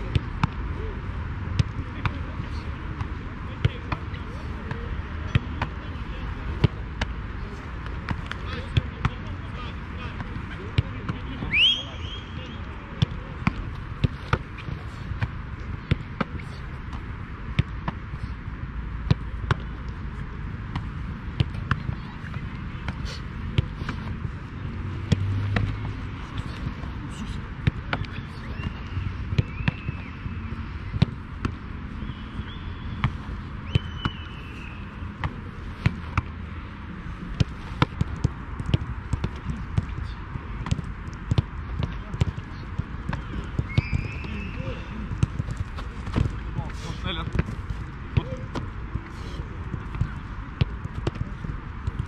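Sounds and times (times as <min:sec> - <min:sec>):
football being kicked and hit: 0:00.0 - 0:52.0.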